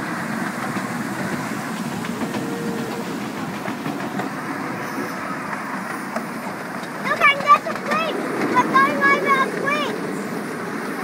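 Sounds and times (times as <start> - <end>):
faint clicks of rails: 0.0 - 11.0
train wheels rumbling on rails: 0.0 - 11.0.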